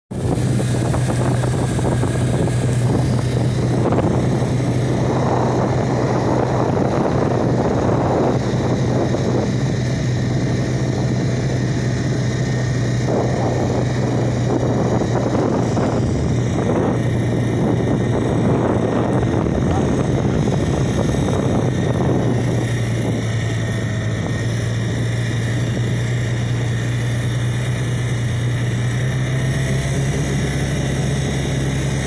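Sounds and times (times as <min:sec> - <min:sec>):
steady low hum: 0:00.1 - 0:32.0
wind buffeting microphone: 0:00.1 - 0:32.0.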